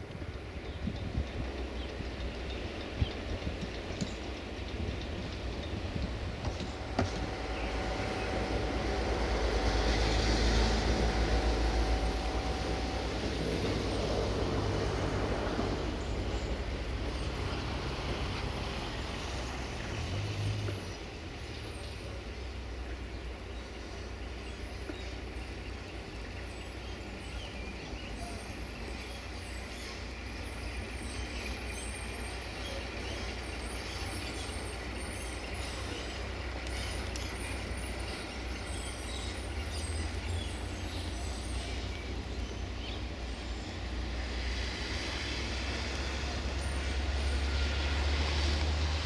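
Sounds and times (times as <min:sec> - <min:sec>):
distant truck diesel engine rumble: 0:00.0 - 0:49.0.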